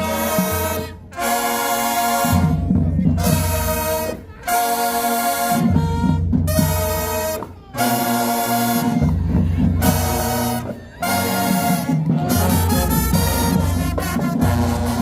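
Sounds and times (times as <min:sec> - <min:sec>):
marching band brass chords: 0:00.0 - 0:15.0
drums: 0:02.0 - 0:04.4, 0:05.0 - 0:15.0.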